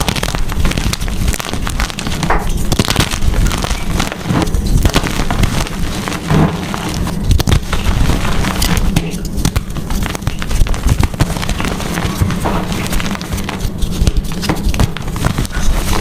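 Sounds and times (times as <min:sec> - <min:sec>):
chalk being crushed: 0:00.0 - 0:16.0.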